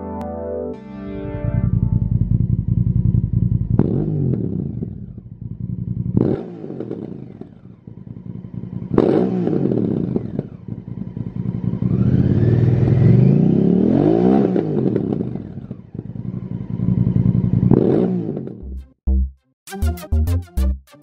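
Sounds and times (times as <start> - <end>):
motorcycle engine revving: 1.4 - 18.7.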